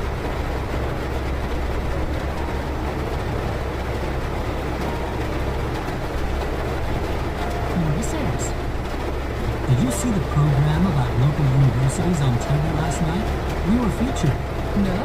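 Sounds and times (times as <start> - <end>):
heavy rain on a car: 0.0 - 15.0.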